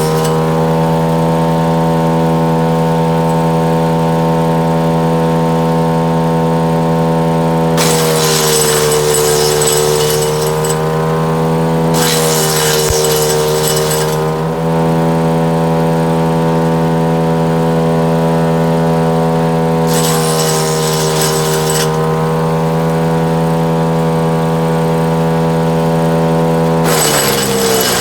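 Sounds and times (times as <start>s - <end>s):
wood chipper crunching branches: 0.0s - 28.0s
wood chipper engine running: 0.0s - 28.0s.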